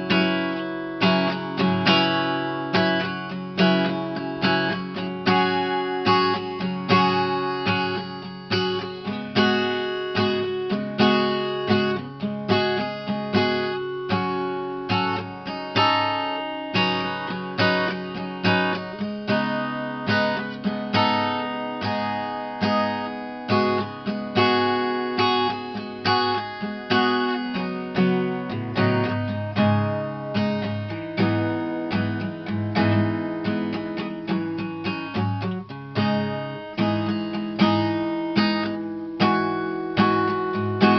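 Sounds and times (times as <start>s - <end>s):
guitar strumming: 0.0s - 40.9s.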